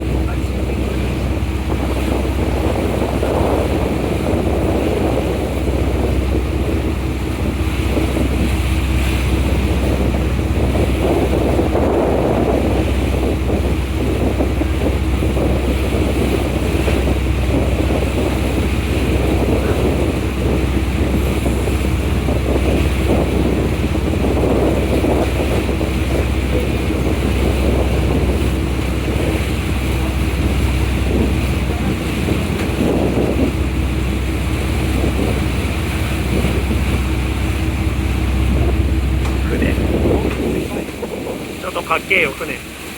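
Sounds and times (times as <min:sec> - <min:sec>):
ferry engines droning: 0:00.0 - 0:42.9
water rushing past hull: 0:00.0 - 0:42.9
wind buffeting microphone: 0:00.0 - 0:42.9.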